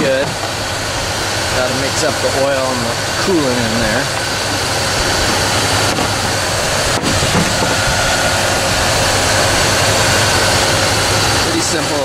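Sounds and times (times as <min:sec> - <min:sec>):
air conditioning fan rush: 0:00.0 - 0:12.0
faint steady whine: 0:00.0 - 0:12.0
pickup engine idling: 0:00.0 - 0:12.0.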